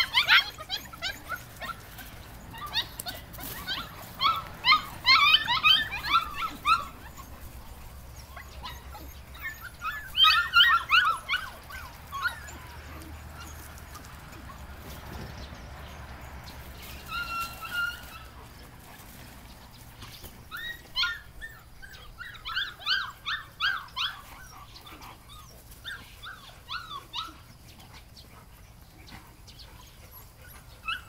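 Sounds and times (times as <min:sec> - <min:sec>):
puppies yipping and whining: 0:00.0 - 0:31.0.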